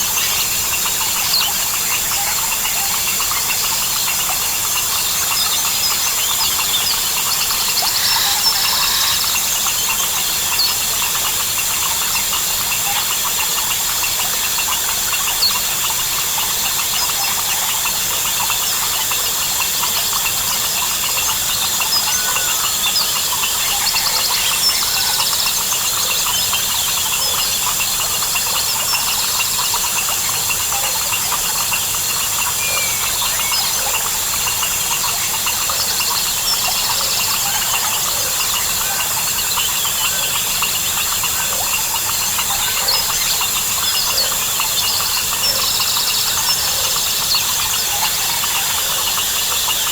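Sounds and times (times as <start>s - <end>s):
frogs calling: 0.0s - 49.9s
insects trilling: 0.0s - 49.9s.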